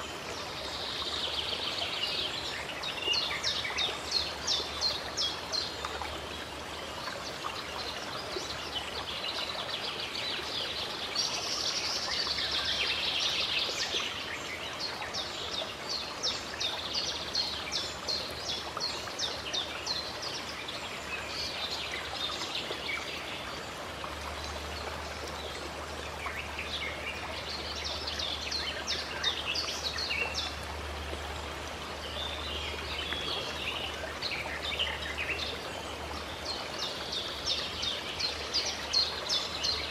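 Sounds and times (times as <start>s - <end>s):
songbirds calling: 0.0s - 39.9s
stream running: 0.0s - 39.9s.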